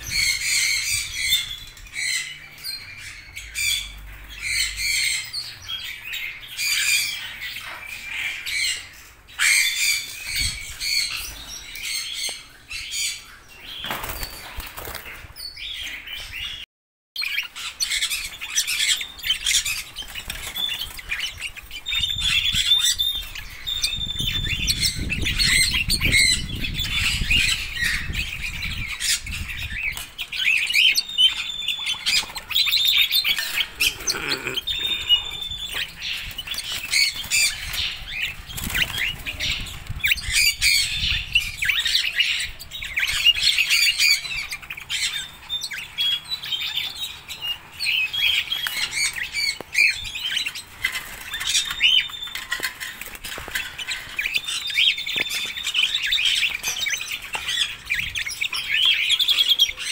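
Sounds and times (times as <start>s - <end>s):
parrots chirping and squawking: 0.0s - 16.6s, 17.2s - 59.9s.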